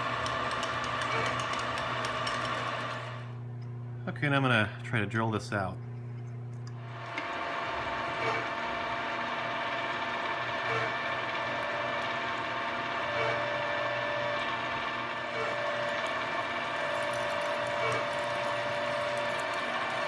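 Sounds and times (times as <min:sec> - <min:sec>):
milling machine whine: 0:00.0 - 0:03.4, 0:06.7 - 0:20.0.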